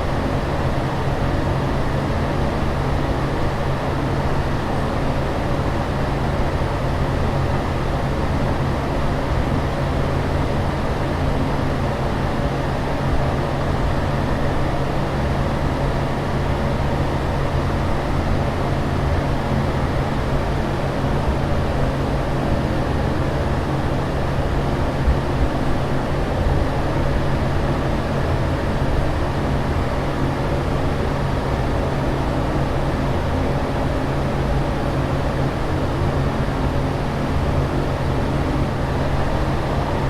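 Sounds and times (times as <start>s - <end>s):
constant low hum: 0.0s - 40.0s.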